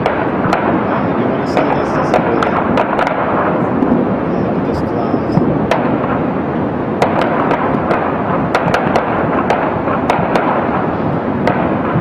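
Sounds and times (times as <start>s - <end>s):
fire popping and cracking: 0.0s - 12.0s
fire roaring: 0.0s - 12.0s.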